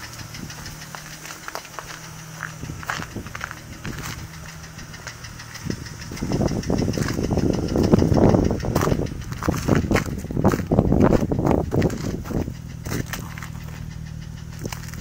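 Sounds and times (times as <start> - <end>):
engine idling with knock: 0.0 - 15.0
loud rough rumbling: 0.0 - 15.0.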